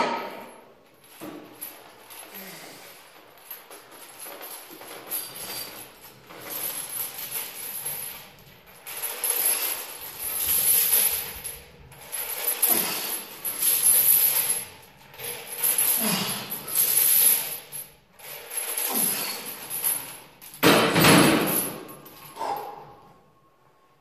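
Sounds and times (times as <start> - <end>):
chains clinking and rattling: 0.0 - 23.1.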